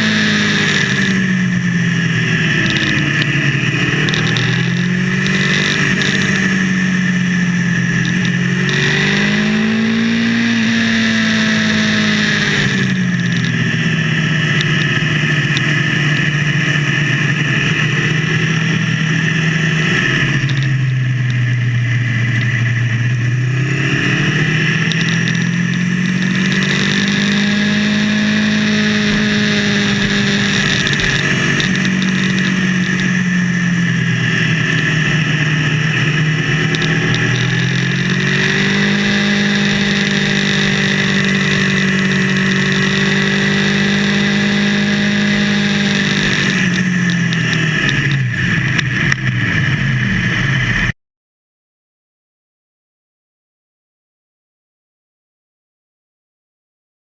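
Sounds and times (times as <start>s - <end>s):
motorcycle engine rising and falling: 0.0s - 51.0s.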